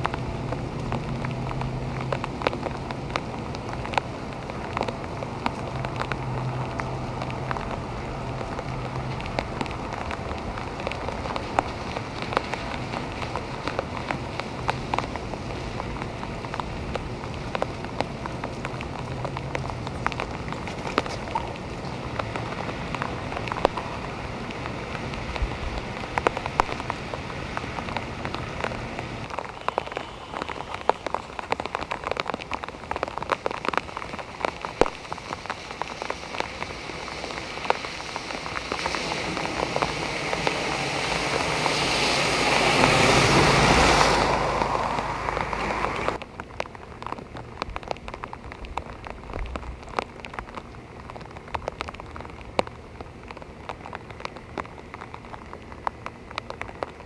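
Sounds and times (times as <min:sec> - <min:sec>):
car tyres through water: 0:00.0 - 0:57.0
heavy rain on street: 0:00.0 - 0:57.0.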